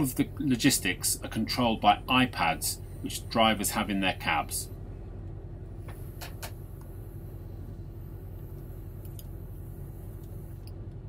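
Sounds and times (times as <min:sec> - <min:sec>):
low engine drone: 0:00.0 - 0:11.0
steady hum: 0:00.0 - 0:11.0.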